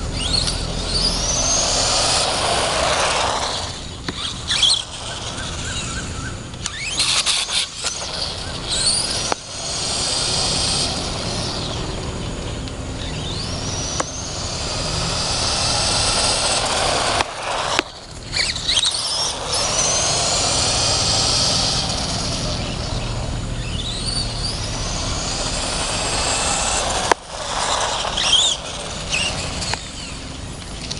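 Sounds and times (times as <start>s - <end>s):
small electric motor whining: 0.0s - 30.9s
steady rushing noise: 0.0s - 30.9s.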